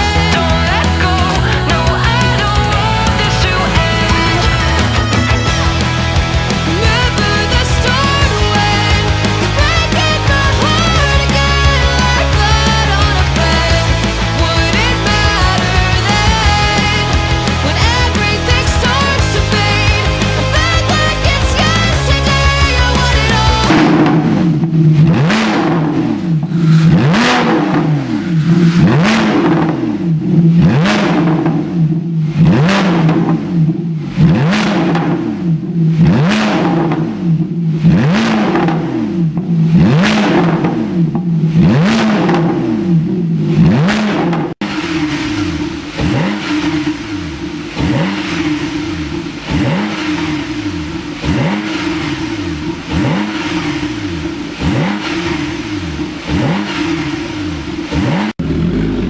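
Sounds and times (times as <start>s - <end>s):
car engine revving in blips: 0.0s - 59.0s.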